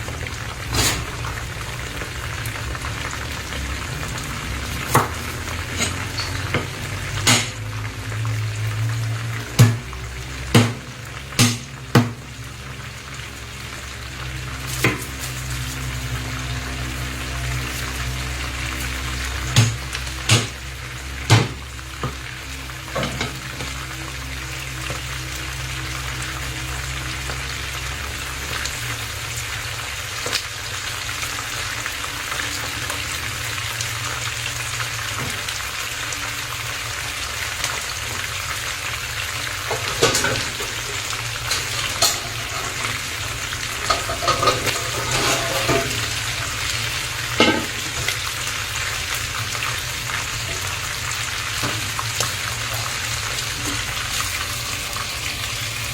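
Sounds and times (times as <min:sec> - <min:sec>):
meat sizzling in a pan: 0:00.0 - 0:55.9.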